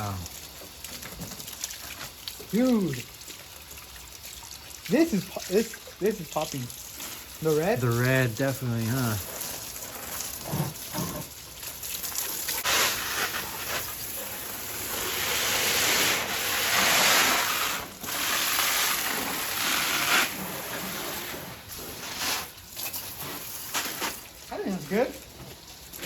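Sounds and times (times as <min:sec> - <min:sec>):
garden hose spraying water: 0:00.0 - 0:26.0.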